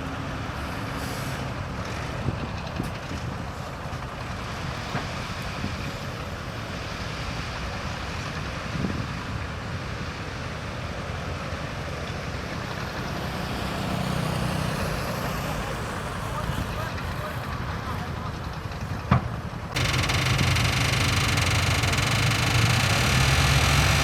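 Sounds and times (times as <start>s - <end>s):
bulldozer diesel engine rumbling: 0.0s - 24.0s.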